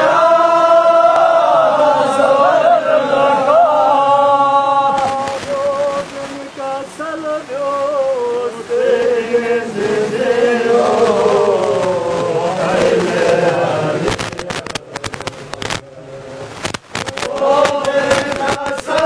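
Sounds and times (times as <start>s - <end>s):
men chanting a lament: 0.0s - 16.5s, 17.2s - 19.0s.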